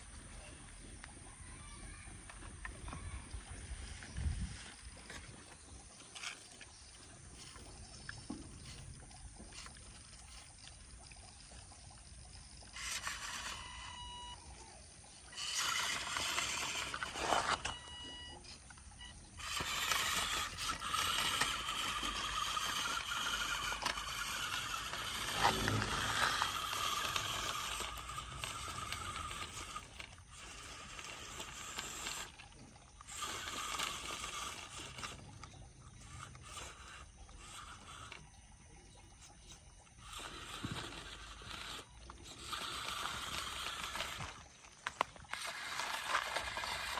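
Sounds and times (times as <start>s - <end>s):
toy motors and gears whirring: 0.0s - 46.9s.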